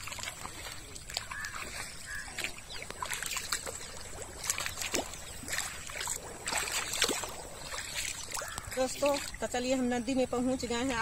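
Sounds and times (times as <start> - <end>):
feet splashing through shallow water: 0.0 - 10.0.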